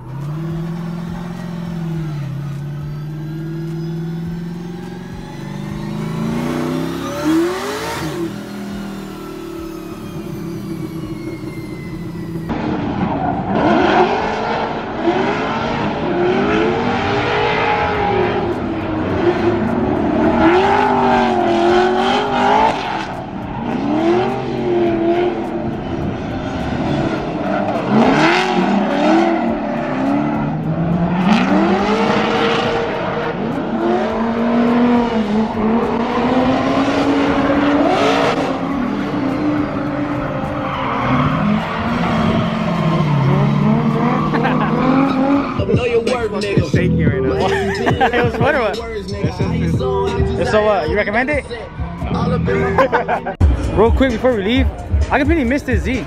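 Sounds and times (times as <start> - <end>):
car engine running hard: 0.0 - 56.0
car engines revving: 0.0 - 56.0.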